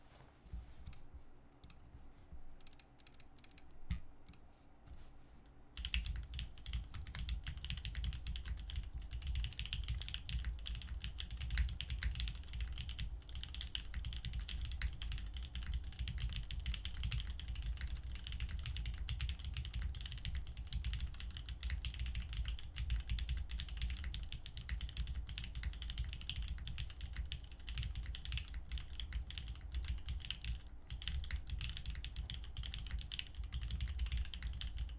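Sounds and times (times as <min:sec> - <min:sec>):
typing on mechanical keyboard: 0:05.8 - 0:34.9.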